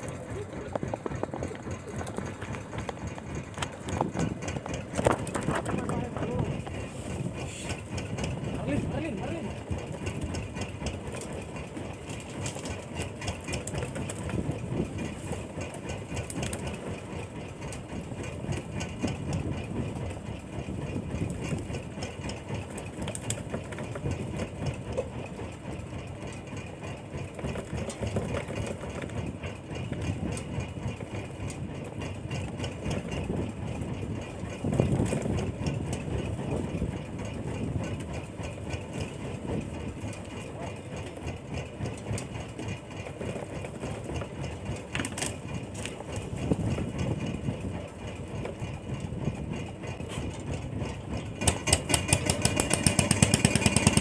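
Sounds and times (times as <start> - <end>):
boat engine idling with pulsing: 0.0 - 54.0.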